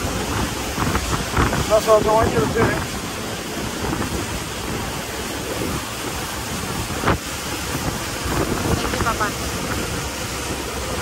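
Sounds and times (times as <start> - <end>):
boat engine drone: 0.0 - 11.0
water rushing past boat hull: 0.0 - 11.0
wind buffeting microphone: 0.0 - 11.0.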